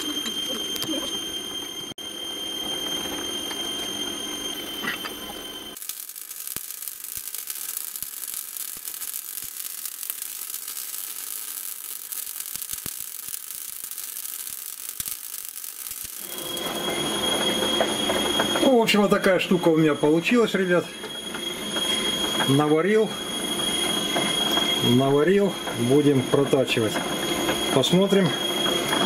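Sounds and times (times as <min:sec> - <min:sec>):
lathe high whine: 0:00.0 - 0:29.0
welder crackling hiss: 0:05.7 - 0:29.0.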